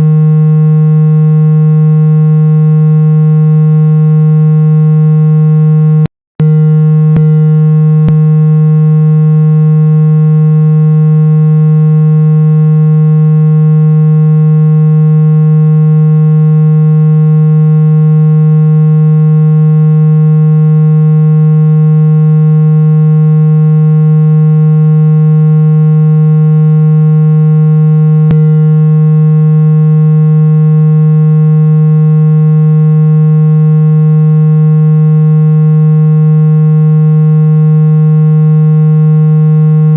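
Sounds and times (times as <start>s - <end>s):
synthesized low buzzing tone: 0.0s - 39.9s.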